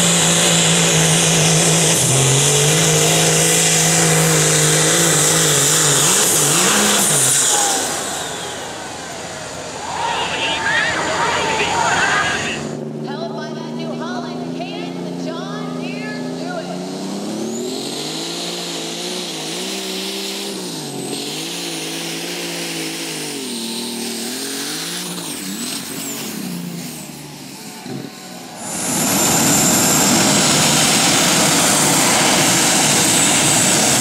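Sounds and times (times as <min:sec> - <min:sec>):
rushing engine roar with whine: 0:00.0 - 0:34.0
tractor engine under full load: 0:00.0 - 0:34.0.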